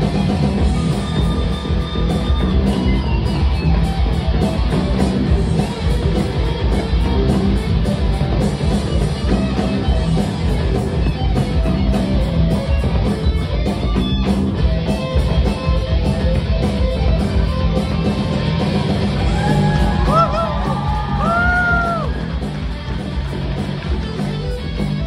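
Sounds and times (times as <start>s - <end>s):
drums: 0.0s - 25.0s
electric guitar: 0.0s - 25.0s.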